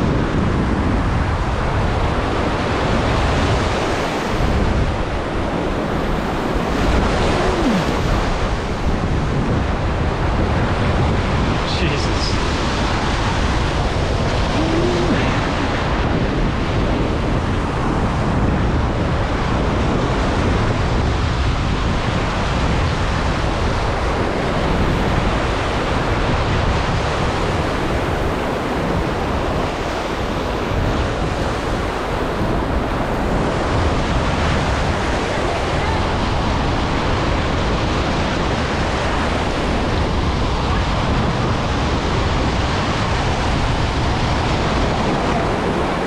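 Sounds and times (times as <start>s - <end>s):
wind on microphone: 0.0s - 46.0s
waves washing: 1.4s - 18.2s, 22.1s - 46.0s.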